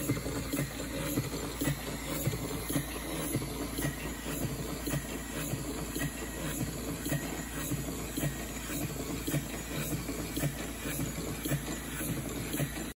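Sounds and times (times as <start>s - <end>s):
steam engine cylinder puffing: 0.0s - 12.9s
valve gear clicking: 0.0s - 12.9s.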